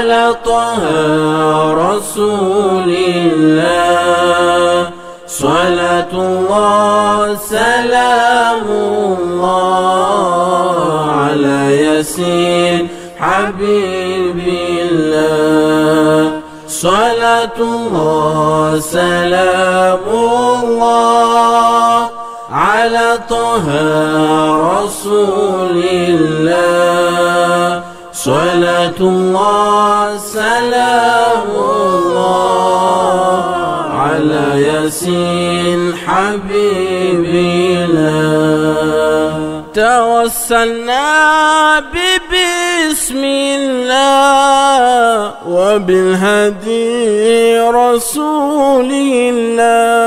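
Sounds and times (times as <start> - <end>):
person chanting: 0.0 - 50.0.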